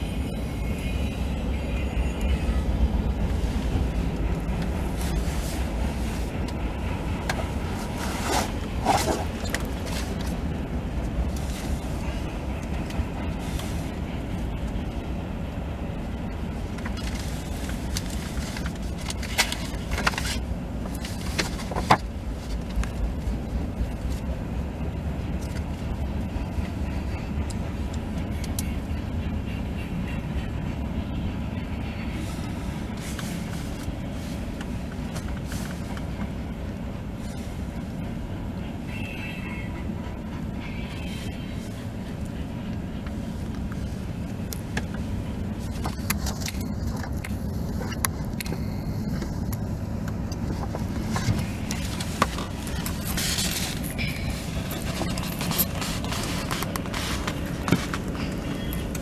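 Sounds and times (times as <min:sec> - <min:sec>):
car cabin road rumble: 0:00.0 - 0:59.0.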